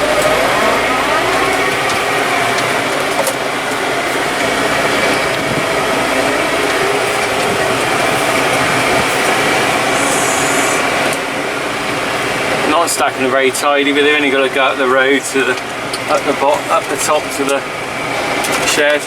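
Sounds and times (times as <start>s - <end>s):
engine running: 0.0s - 18.8s.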